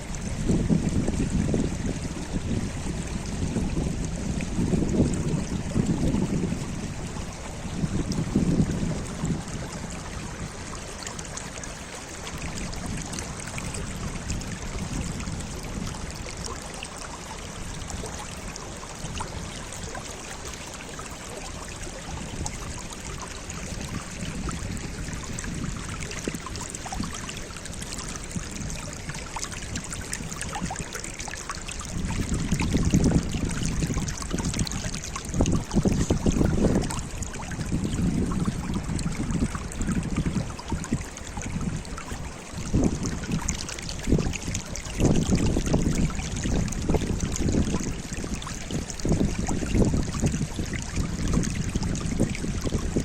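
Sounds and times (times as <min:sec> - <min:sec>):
running water rushing: 0:00.0 - 0:53.0.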